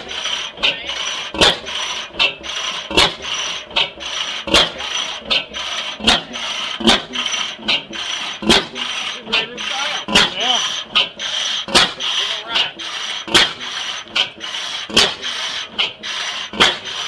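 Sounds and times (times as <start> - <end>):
old engine knocking: 0.0 - 17.0
rhythmic rasping mechanical noise: 0.0 - 17.0.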